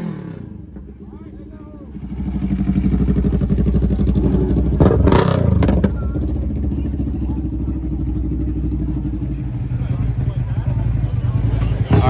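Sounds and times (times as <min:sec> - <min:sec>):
loud engine revving: 0:00.0 - 0:00.8, 0:02.0 - 0:12.0.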